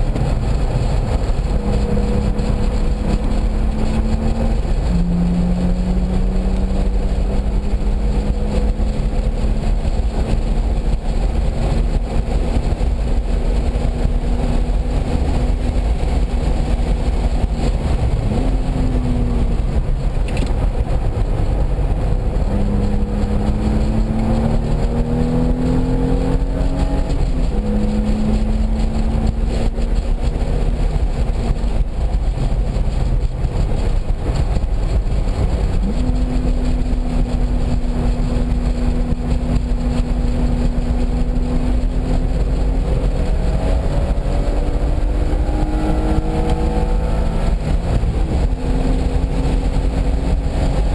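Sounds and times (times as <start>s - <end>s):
car engine shifting gears: 0.0s - 50.9s
wind and road noise: 0.0s - 50.9s.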